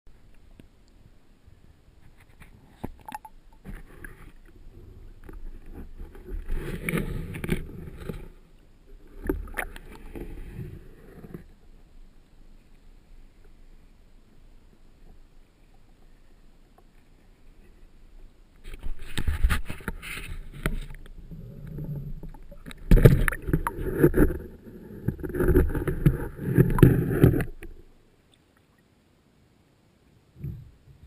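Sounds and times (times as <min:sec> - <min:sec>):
water splashing and sloshing: 0:00.1 - 0:29.0.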